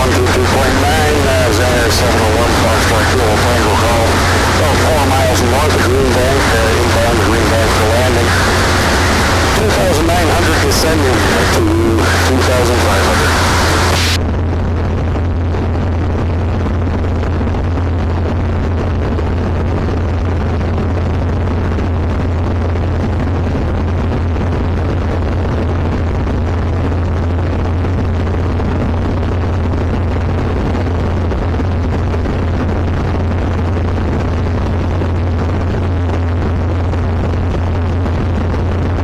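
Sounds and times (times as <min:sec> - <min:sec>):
light aircraft engine droning: 0:00.0 - 0:39.0.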